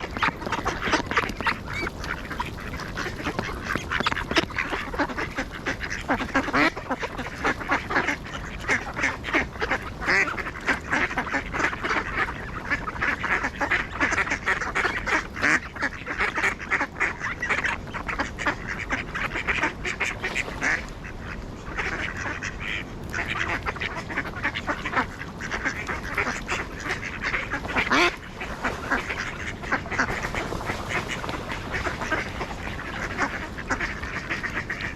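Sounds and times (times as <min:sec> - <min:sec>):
ducks quacking: 0:00.0 - 0:34.9.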